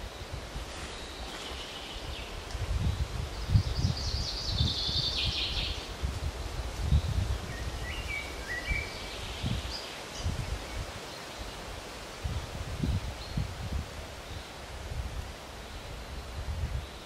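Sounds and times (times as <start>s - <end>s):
wind buffeting microphone: 0.0s - 11.0s, 11.6s - 17.0s
songbirds singing: 0.0s - 14.8s.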